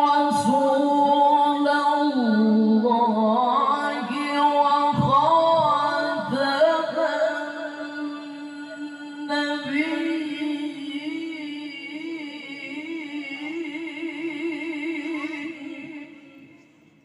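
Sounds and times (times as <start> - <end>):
man chanting melodically into microphone: 0.0 - 16.7.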